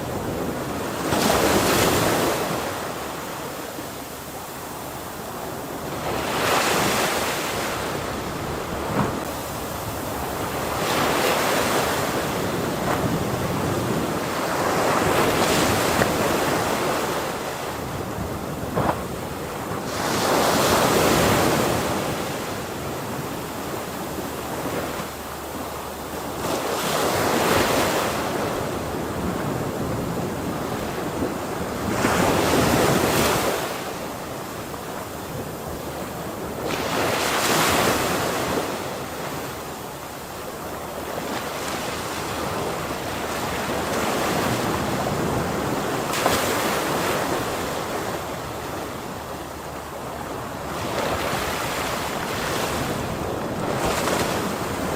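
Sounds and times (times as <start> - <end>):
ocean waves crashing: 0.0 - 54.9.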